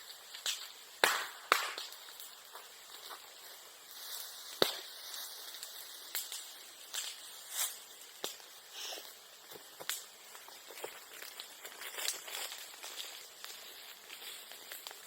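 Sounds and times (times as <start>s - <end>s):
bamboo fire crackling and popping: 0.0s - 15.0s.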